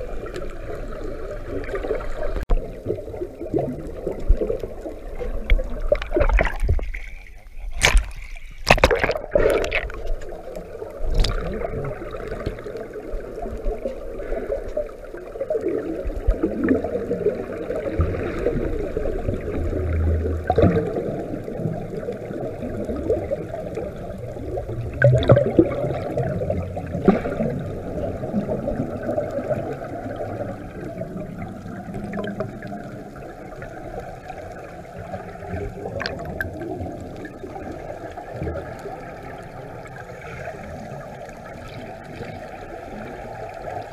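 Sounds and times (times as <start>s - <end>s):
gurgling bubbles: 0.0s - 43.9s
underwater water rush: 0.0s - 43.9s.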